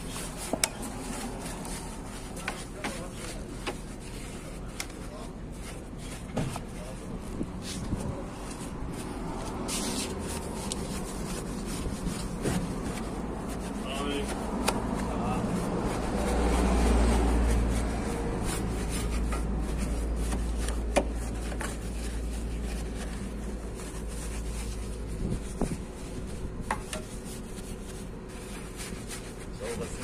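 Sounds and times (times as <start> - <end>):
rubbing and scraping of parts: 0.0 - 30.0.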